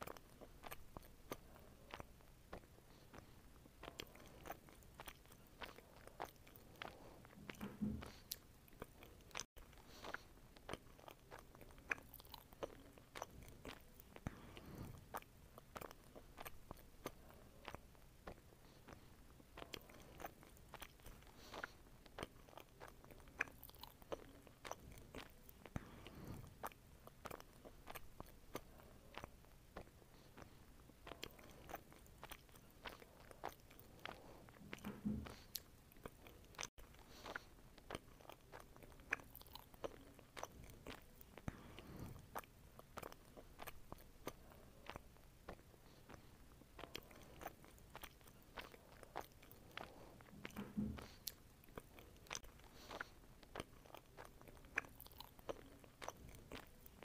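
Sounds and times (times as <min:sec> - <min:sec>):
person chewing soft fruit: 0:00.0 - 0:57.0.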